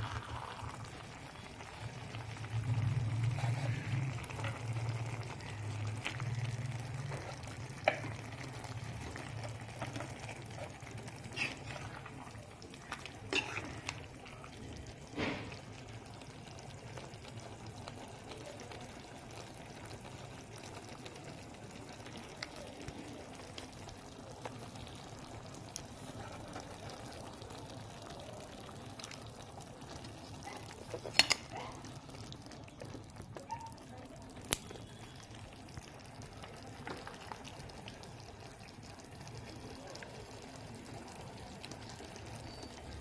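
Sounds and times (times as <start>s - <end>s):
curry sizzling and bubbling: 0.0s - 43.0s.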